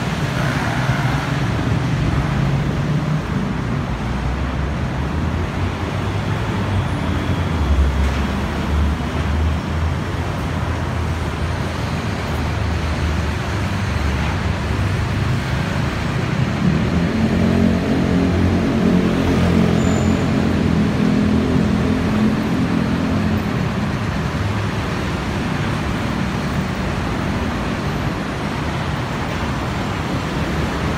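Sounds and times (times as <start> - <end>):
large vehicle engine hum: 0.0 - 30.9
road traffic rumble: 0.0 - 30.9.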